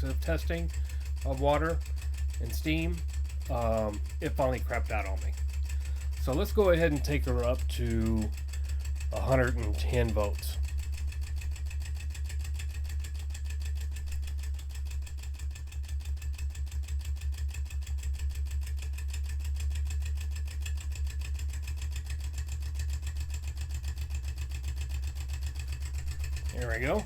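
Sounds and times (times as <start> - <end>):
steady low hum: 0.0 - 27.0
toy steam engine cylinder beating: 0.0 - 27.0.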